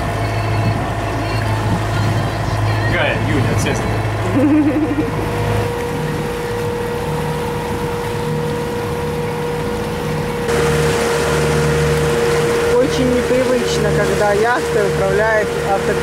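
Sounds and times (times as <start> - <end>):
boat diesel engine running: 0.0 - 16.0.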